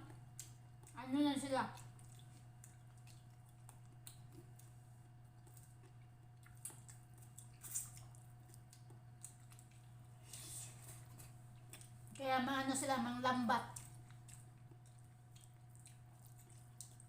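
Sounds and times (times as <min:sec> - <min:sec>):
steady low hum: 0:00.0 - 0:17.0
chewing mouth noises: 0:01.7 - 0:12.2, 0:13.7 - 0:17.0.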